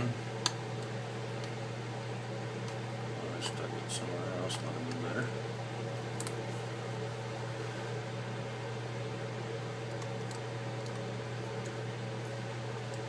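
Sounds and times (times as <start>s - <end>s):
steady low hum with hiss: 0.0s - 13.0s.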